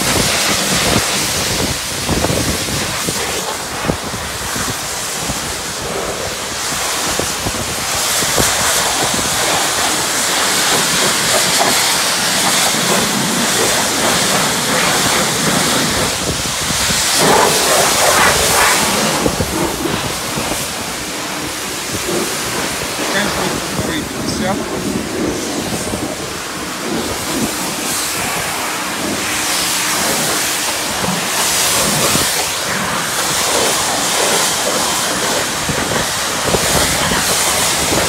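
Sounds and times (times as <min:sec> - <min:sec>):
pressure washer spraying water: 0:00.0 - 0:38.0.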